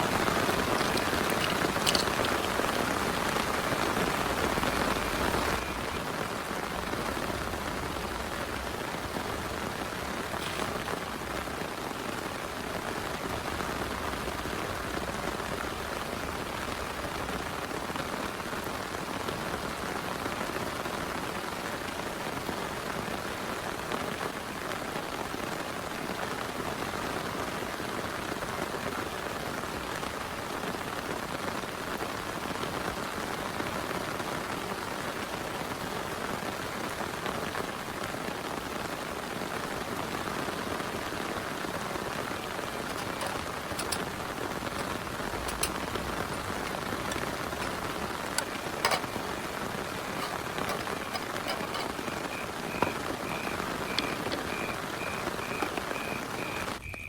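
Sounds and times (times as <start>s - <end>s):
heavy rain: 0.0s - 56.8s.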